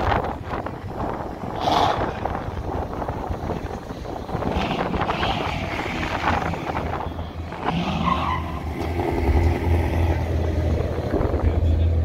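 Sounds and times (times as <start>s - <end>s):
car exhausts rumbling: 0.0s - 12.0s.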